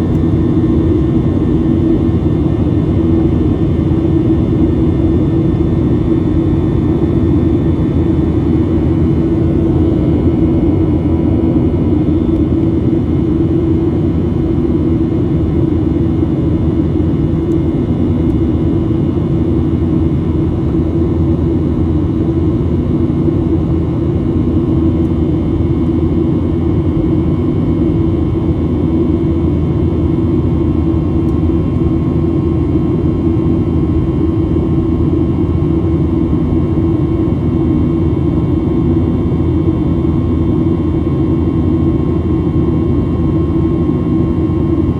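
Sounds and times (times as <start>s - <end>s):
jet engines droning: 0.0s - 44.9s.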